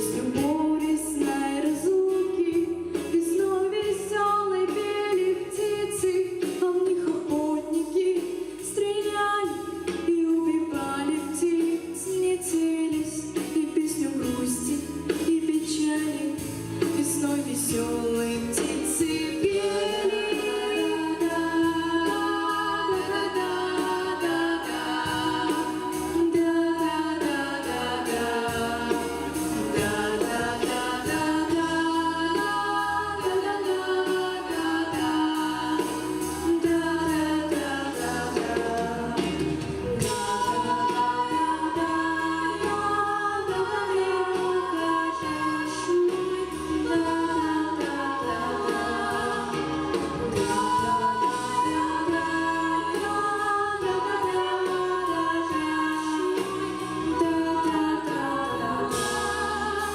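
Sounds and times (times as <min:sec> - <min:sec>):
instrumental accompaniment: 0:00.0 - 0:59.9
women singing in harmony: 0:00.0 - 0:59.9.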